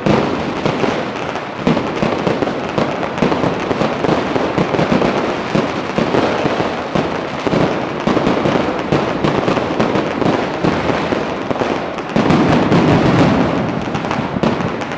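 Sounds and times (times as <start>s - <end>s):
firecrackers and fireworks banging: 0.0s - 14.9s.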